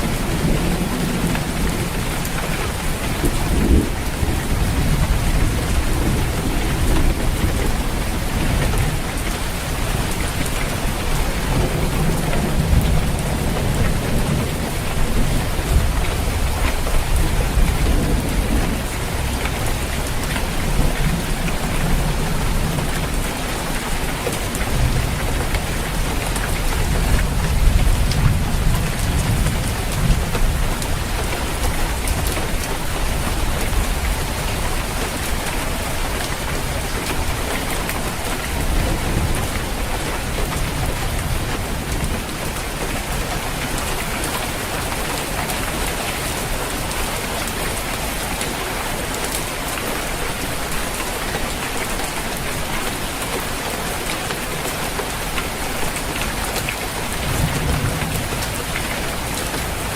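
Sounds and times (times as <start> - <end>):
rain pattering on a roof: 0.0 - 59.9.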